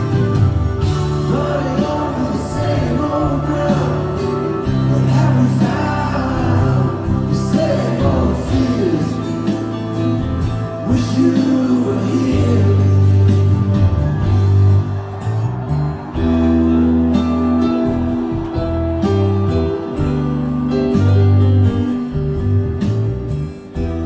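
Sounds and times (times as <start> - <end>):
song with singing: 0.0 - 23.8
sustained bass notes: 0.0 - 24.0.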